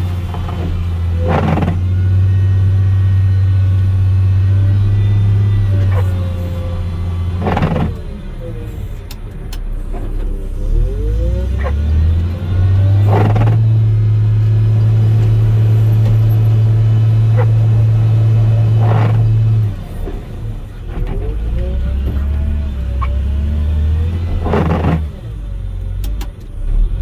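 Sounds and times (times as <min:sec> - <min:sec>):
wheel loader diesel engine revving: 0:00.0 - 0:27.0.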